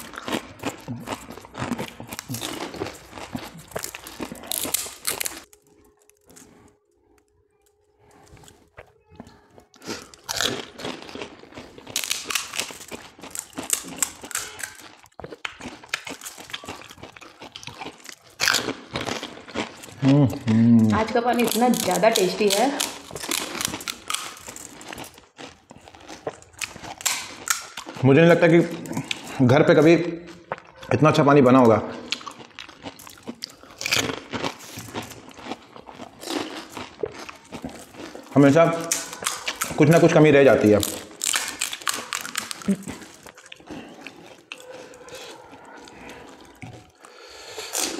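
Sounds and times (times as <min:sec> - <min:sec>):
crisp shells crunching and crackling: 0:00.0 - 0:30.4, 0:32.0 - 0:47.9.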